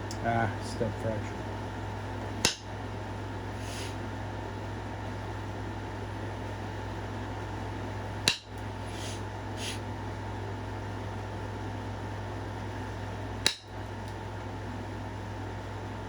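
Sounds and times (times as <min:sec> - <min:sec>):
fan-like hum: 0:00.0 - 0:16.0.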